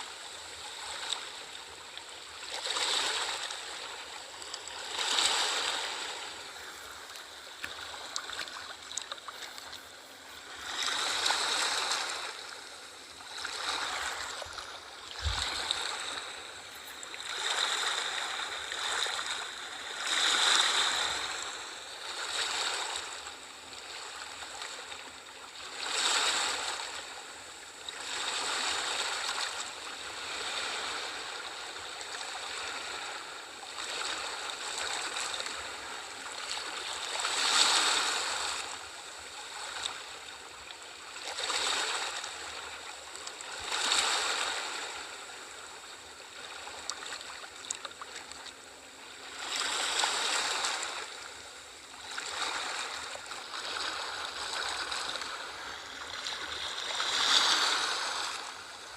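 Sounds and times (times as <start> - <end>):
sea waves breaking: 0.0 - 23.3, 27.9 - 40.4, 41.1 - 48.5, 49.1 - 58.9.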